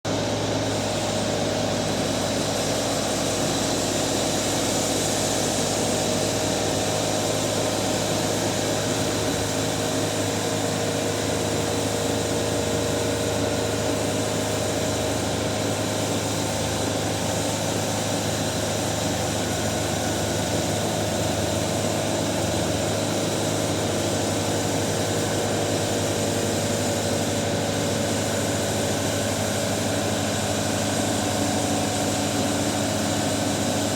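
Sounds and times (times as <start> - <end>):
machine motor hum: 0.2 - 33.9.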